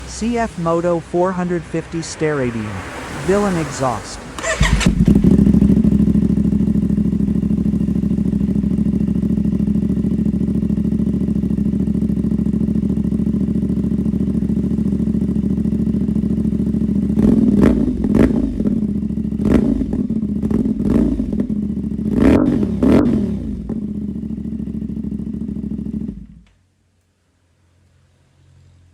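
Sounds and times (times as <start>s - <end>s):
motorcycle engine idling and revving: 0.0s - 26.7s.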